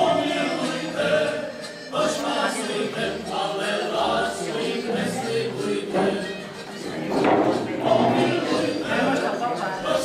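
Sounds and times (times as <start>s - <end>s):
group of people singing: 0.0s - 10.0s.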